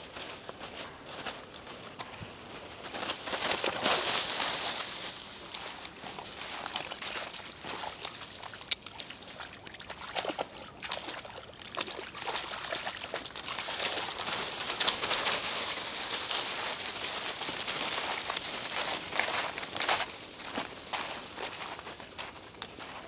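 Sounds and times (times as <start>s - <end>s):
dry leaves rustling: 0.0s - 9.6s, 10.2s - 23.0s
dogs splashing in pond: 3.1s - 23.0s.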